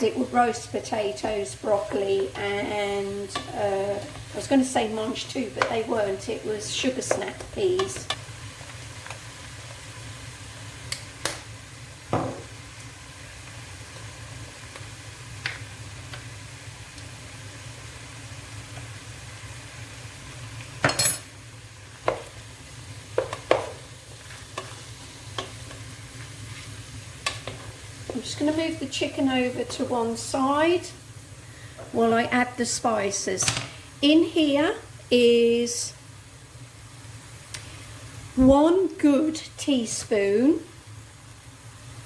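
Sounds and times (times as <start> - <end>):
chicken sizzling in a frying pan: 0.0 - 42.0.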